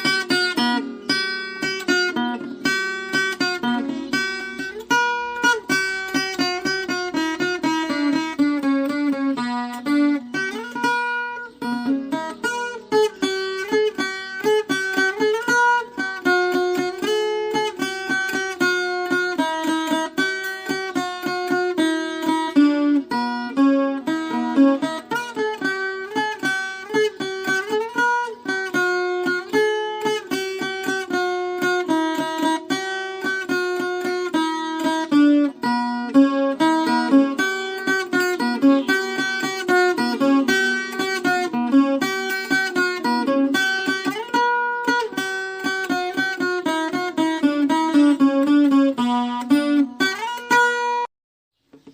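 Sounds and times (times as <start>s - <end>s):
plucked folk guitar tune: 0.0s - 51.9s.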